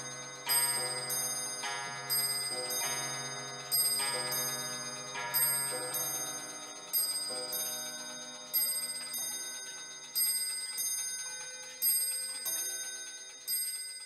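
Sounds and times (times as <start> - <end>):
bell-like chimes: 0.0 - 14.0.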